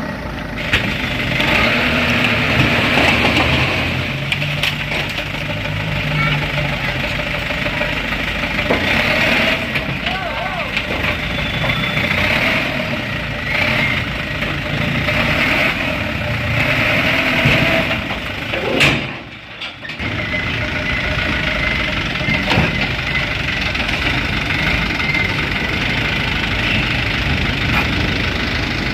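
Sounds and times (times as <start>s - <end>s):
dump truck engine idling: 0.0s - 28.9s.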